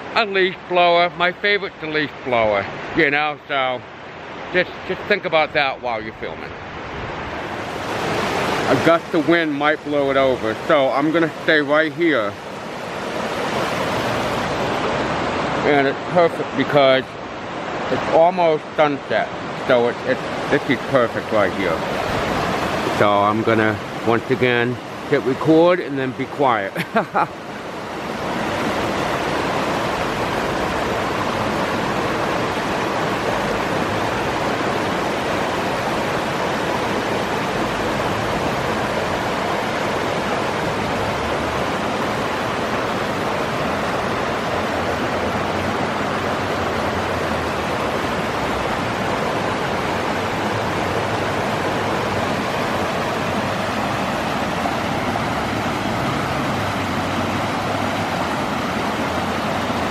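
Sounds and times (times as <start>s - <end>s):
creek water rushing: 0.0s - 59.9s.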